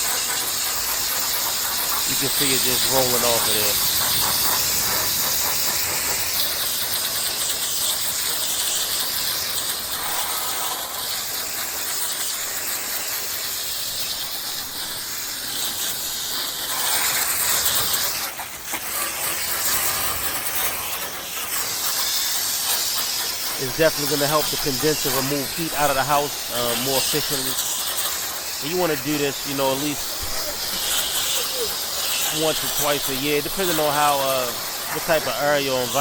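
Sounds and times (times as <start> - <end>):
hose spraying water: 0.0 - 36.0.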